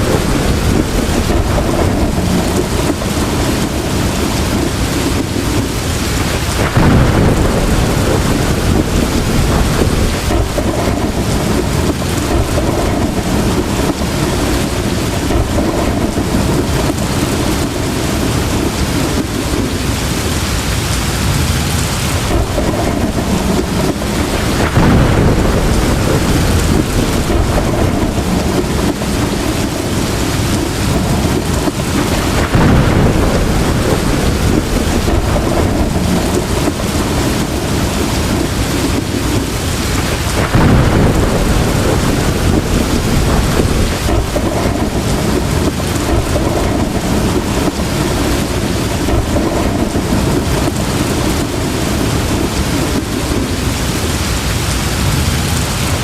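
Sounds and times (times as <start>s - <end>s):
deep rolling thunder: 0.0s - 56.0s
heavy rain pouring: 0.0s - 56.0s.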